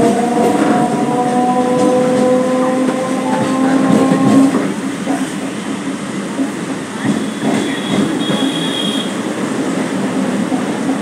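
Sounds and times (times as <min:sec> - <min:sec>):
running train noise: 0:00.0 - 0:11.0.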